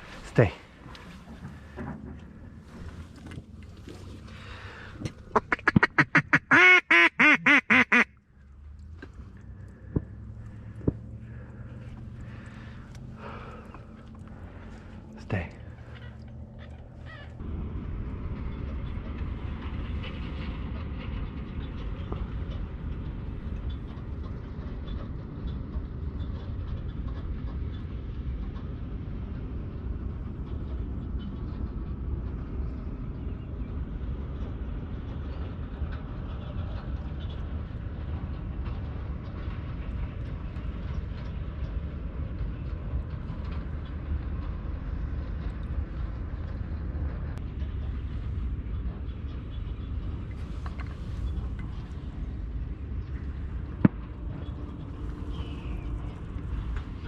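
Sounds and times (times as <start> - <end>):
low rumbling noise: 0.0 - 57.0.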